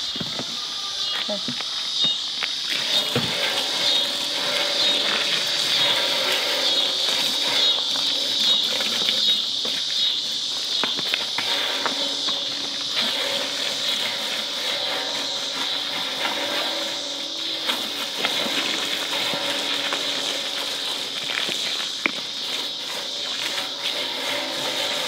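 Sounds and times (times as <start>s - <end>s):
water running from garden hose: 2.4s - 25.0s.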